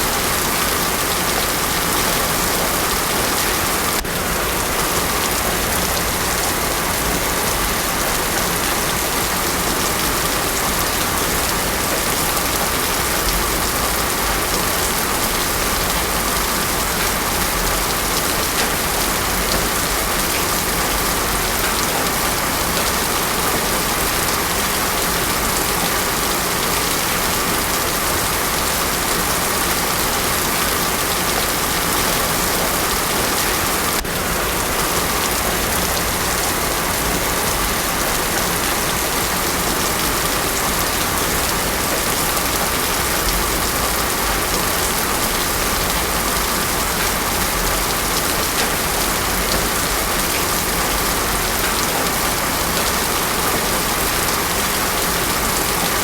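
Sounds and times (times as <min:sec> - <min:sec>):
heavy rain on road: 0:00.0 - 0:56.0.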